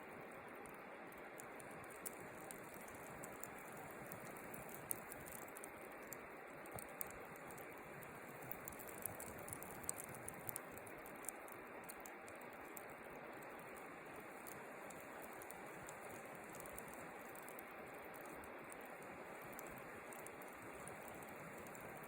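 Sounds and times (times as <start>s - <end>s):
low hiss: 0.0s - 22.0s
wood fire crackling: 0.0s - 22.0s.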